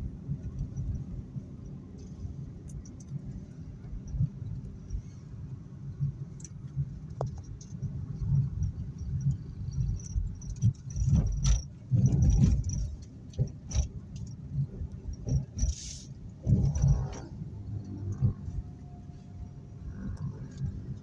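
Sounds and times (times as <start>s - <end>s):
road rumble inside car: 0.0s - 21.0s.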